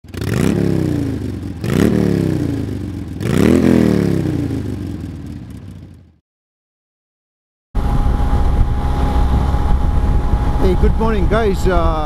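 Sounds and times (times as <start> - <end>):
motorcycle engine revving: 0.0 - 6.2, 7.8 - 11.6.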